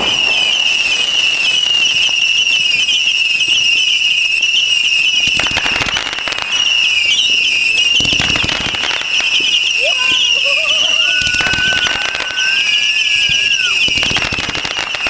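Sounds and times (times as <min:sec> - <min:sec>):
sharp firework cracks: 0:00.0 - 0:03.6, 0:05.0 - 0:09.7, 0:11.0 - 0:15.0
high wavering firework whistle: 0:00.0 - 0:15.0.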